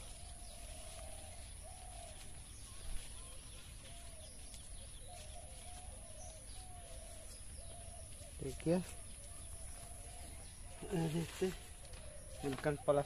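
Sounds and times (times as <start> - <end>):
faint wavering bird calls: 0.0 - 13.0.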